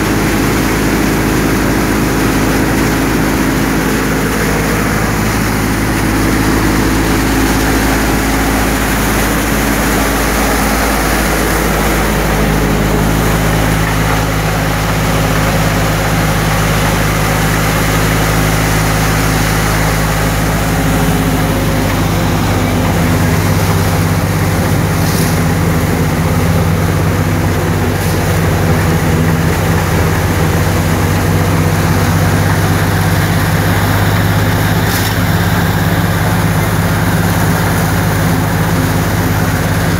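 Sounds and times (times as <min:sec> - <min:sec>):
thresher mechanical drone: 0:00.0 - 0:39.9.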